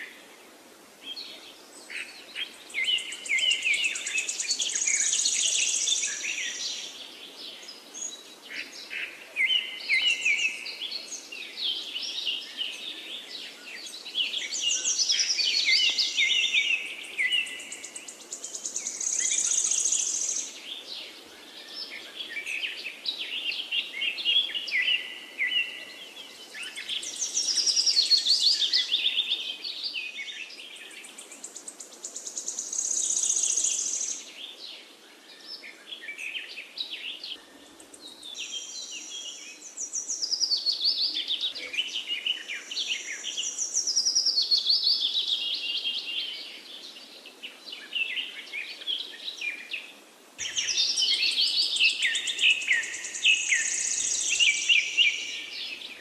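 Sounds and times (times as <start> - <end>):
faint background hiss: 0.0 - 56.0
songbirds singing: 0.0 - 56.0.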